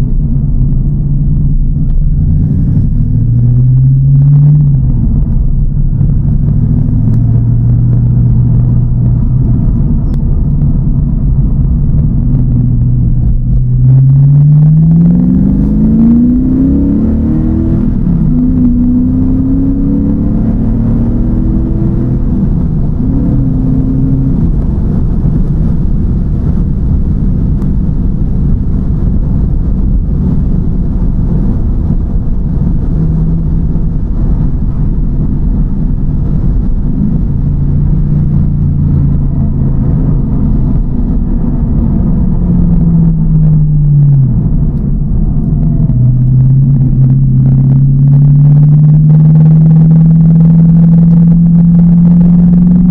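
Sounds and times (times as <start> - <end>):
car engine accelerating: 0.0 - 52.9
road noise: 0.0 - 52.9.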